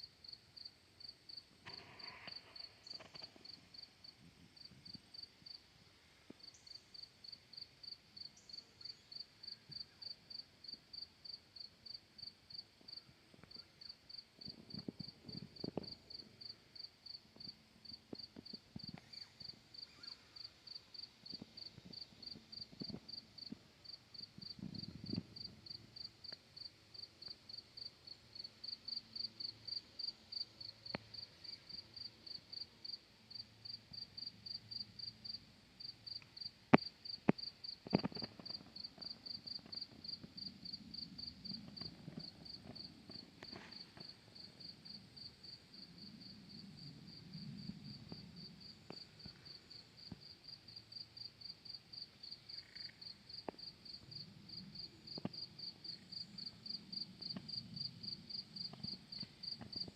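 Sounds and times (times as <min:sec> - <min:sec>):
cricket chirping: 0:00.2 - 0:05.6, 0:06.3 - 0:59.9.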